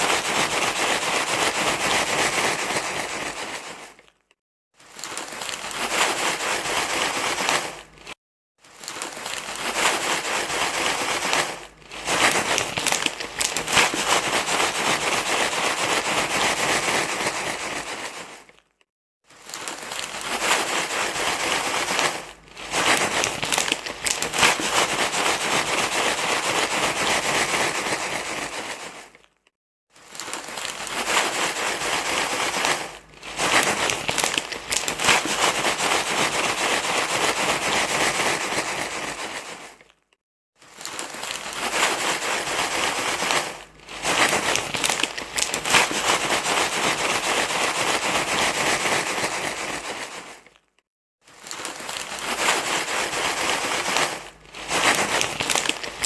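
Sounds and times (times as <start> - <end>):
loud crinkling rustle: 0.0 - 56.0.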